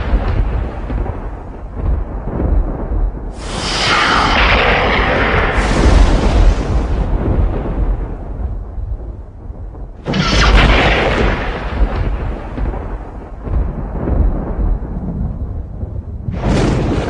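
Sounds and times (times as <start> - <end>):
thunder crack and rumble: 0.0 - 17.0.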